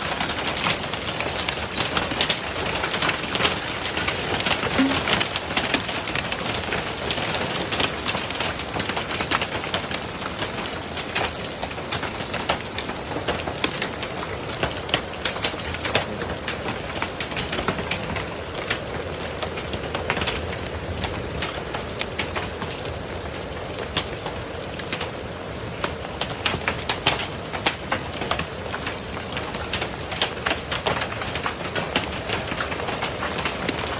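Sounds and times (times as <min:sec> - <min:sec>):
hail pattering on leaves: 0:00.0 - 0:33.9.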